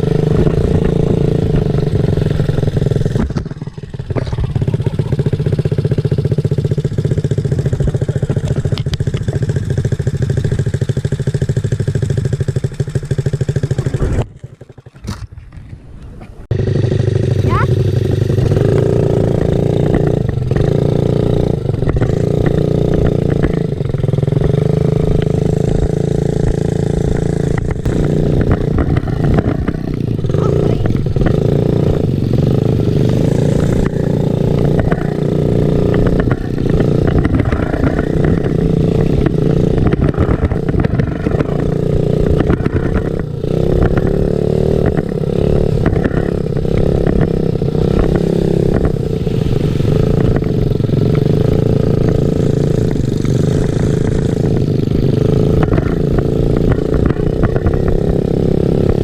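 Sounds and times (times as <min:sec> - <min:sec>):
dirt bike engine revving: 0:00.0 - 0:15.1, 0:16.5 - 0:59.0.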